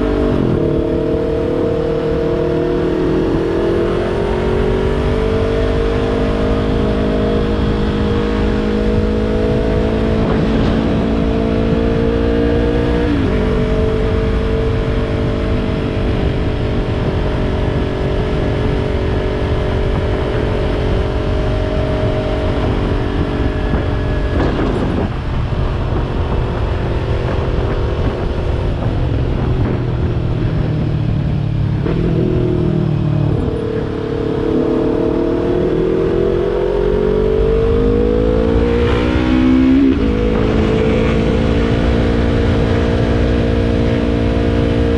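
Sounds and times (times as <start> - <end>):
motorcycle engine revving: 0.0 - 44.9
wind noise: 0.0 - 44.9.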